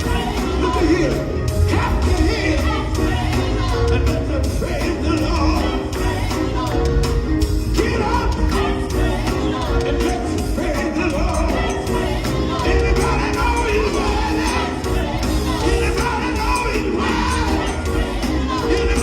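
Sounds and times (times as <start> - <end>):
gospel band playing: 0.0 - 19.0
people singing: 0.0 - 19.0.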